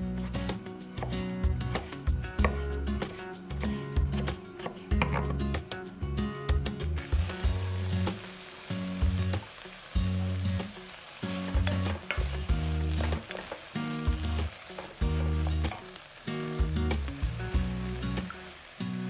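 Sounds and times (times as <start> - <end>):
slow background music: 0.0 - 19.0
vegetables sizzling in a pot: 0.0 - 19.0.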